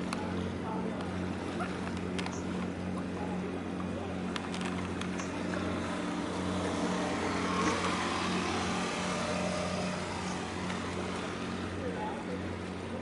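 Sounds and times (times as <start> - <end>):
boat diesel engine droning: 0.0 - 13.0
water and wind hiss: 0.0 - 13.0.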